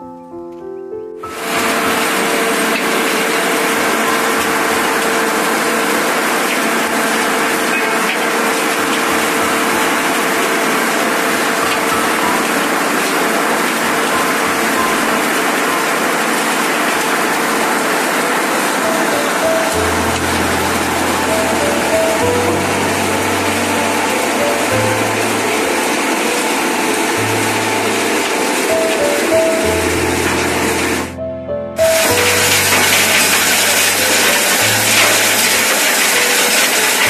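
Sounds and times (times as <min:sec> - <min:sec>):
rotating drum and tumbling gravel: 0:01.3 - 0:31.0, 0:31.8 - 0:37.0.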